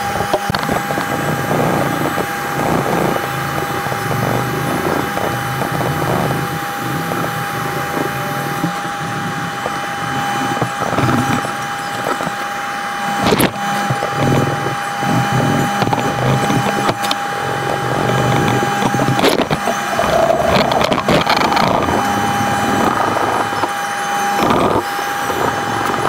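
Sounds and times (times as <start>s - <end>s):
steady high hum: 0.0s - 26.0s.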